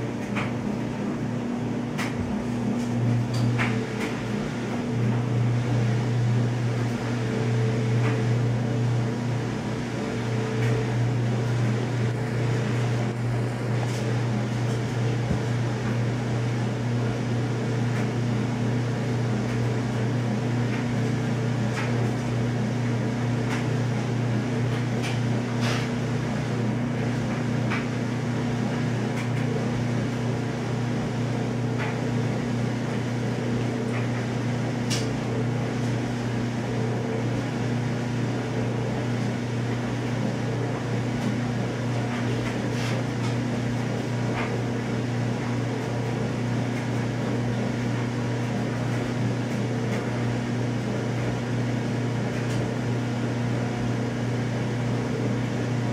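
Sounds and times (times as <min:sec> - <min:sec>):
mechanical hum with low drone: 0:00.0 - 0:55.9.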